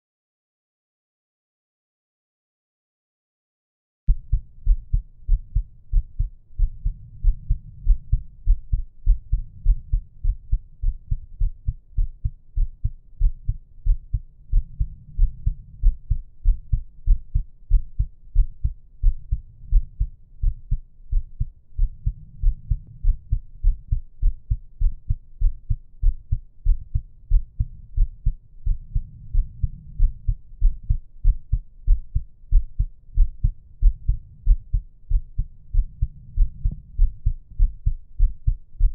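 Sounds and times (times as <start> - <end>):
heartbeat thumps: 4.1 - 38.9.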